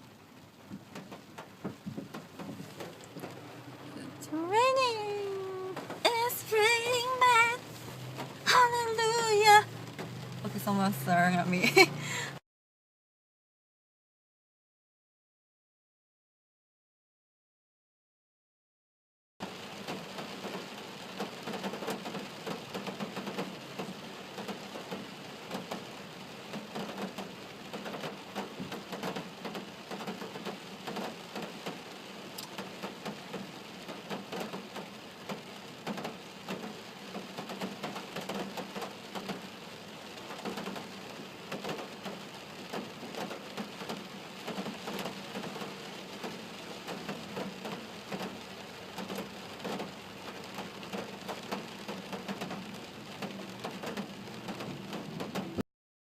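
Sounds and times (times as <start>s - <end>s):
raindrops spattering close by: 0.0s - 12.4s, 19.4s - 55.6s
steady rain falling: 0.0s - 12.4s, 19.4s - 55.6s.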